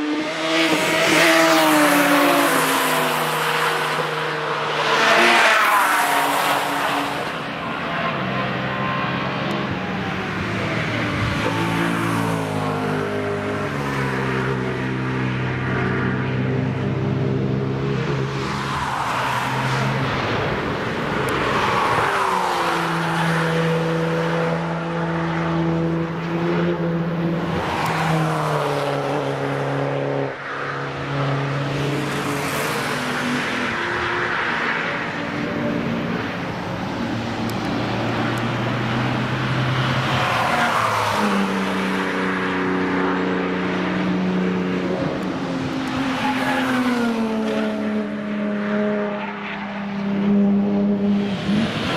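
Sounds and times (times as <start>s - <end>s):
cars passing at speed: 0.0s - 51.9s.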